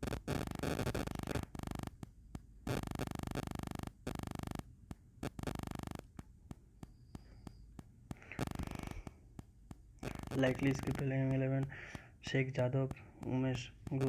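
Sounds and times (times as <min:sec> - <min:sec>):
electrical buzzing hum: 0:00.0 - 0:14.0
faint steady tone: 0:00.0 - 0:14.0
short clicks: 0:00.1 - 0:14.0.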